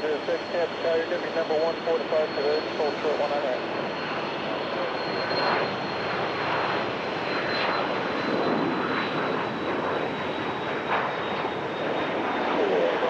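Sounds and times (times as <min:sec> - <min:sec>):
aircraft engine whine: 0:00.0 - 0:13.0.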